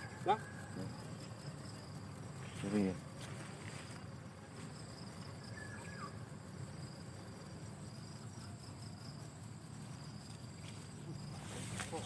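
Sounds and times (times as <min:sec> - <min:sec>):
high-pitched insect chirring: 0:00.0 - 0:12.0.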